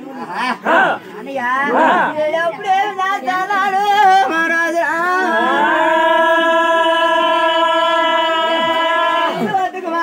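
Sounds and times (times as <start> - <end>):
man singing in quavering voice: 1.4 - 10.0.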